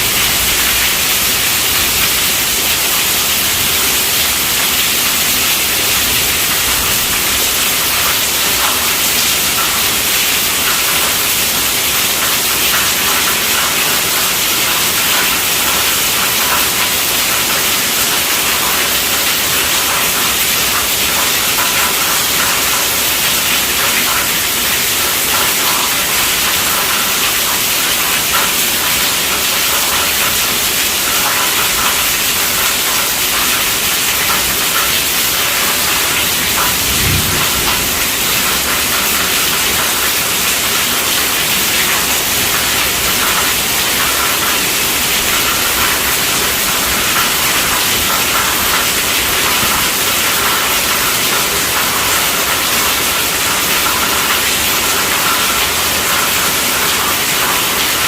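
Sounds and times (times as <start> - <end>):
heavy rain on a tent roof: 0.0 - 58.0.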